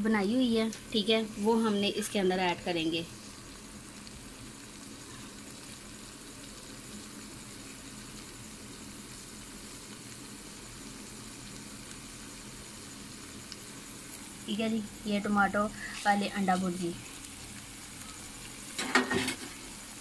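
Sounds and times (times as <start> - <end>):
noodles sizzling in oil: 0.0 - 20.0.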